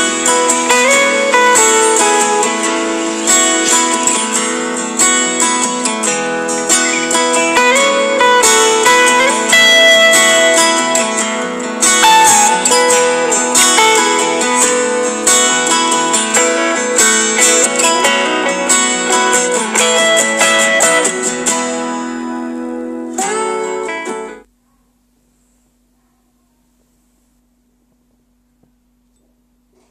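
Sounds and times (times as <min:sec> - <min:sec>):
acoustic guitar music: 0:00.0 - 0:24.5.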